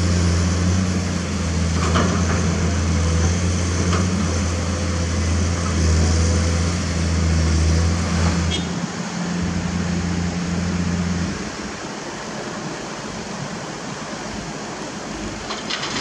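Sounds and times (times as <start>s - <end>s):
excavator diesel engine running: 0.0s - 16.0s
heavy machinery engine hum: 0.0s - 16.0s.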